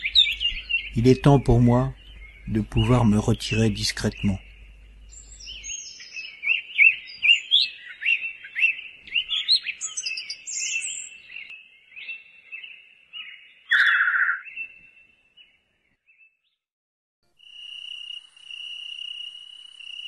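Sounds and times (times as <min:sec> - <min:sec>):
songbirds chirping: 0:00.0 - 0:16.6.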